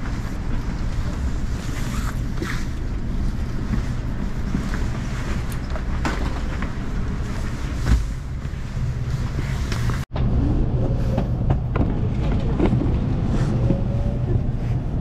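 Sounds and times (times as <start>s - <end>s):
vehicle rumble in motion: 0.0s - 15.0s.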